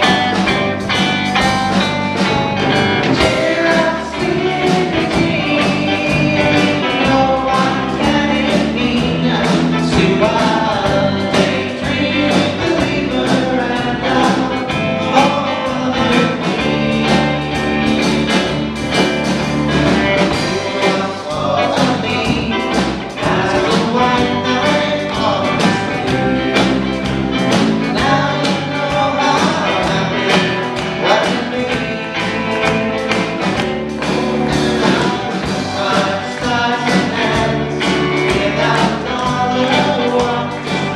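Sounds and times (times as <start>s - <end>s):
person singing: 0.0s - 17.6s, 19.6s - 33.1s, 34.5s - 40.9s
drum kit: 0.0s - 40.9s
electric guitars: 0.0s - 40.9s.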